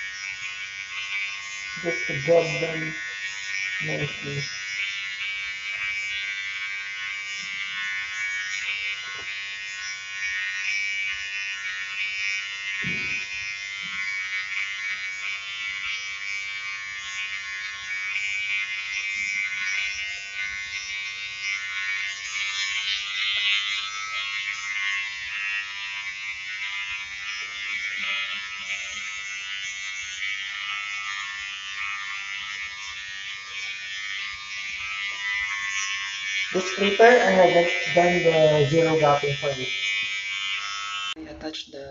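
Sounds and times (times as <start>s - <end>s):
electric trimmer buzzing: 0.0s - 41.9s.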